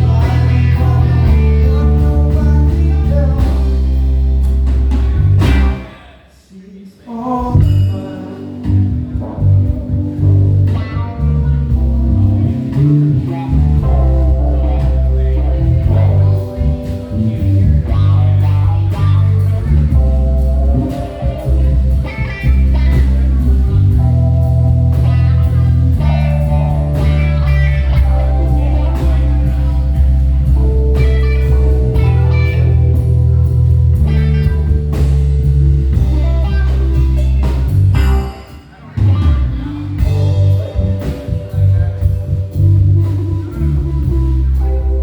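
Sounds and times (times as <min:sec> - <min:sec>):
live blues band playing: 0:00.0 - 0:06.1, 0:07.1 - 0:45.0
heavy bass: 0:00.0 - 0:06.2, 0:07.5 - 0:45.0
keyboard: 0:00.0 - 0:06.3, 0:07.1 - 0:45.0
drums: 0:00.0 - 0:06.4, 0:07.2 - 0:45.0
guitar: 0:00.0 - 0:06.4, 0:07.1 - 0:45.0.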